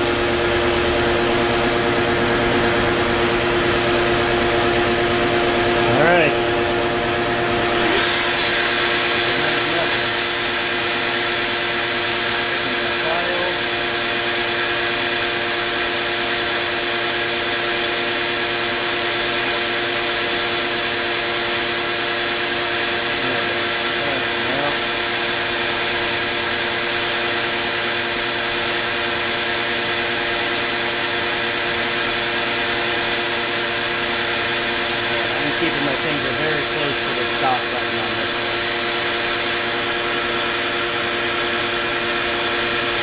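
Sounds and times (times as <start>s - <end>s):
cnc router spindle whining: 0.0s - 43.0s.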